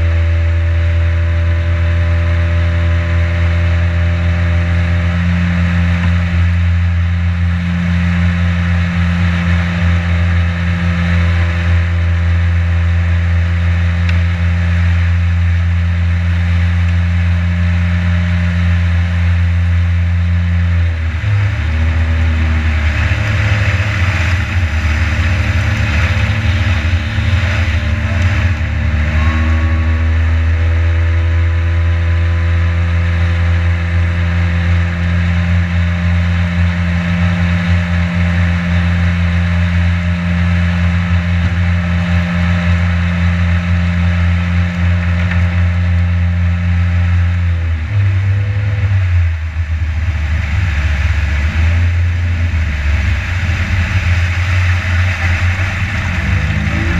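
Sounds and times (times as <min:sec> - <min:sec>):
boat motor running: 0:00.0 - 0:56.9.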